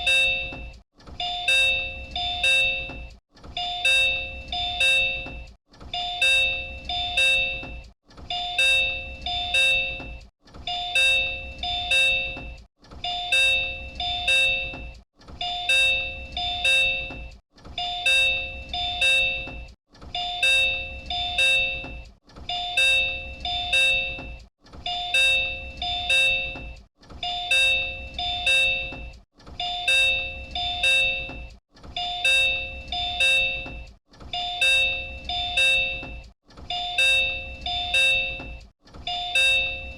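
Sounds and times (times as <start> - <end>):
monorail door chime: 0.0 - 39.9.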